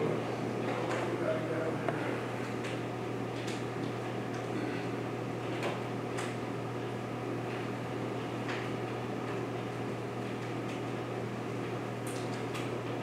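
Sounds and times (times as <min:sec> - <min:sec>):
fan-like whir: 0:00.0 - 0:13.0.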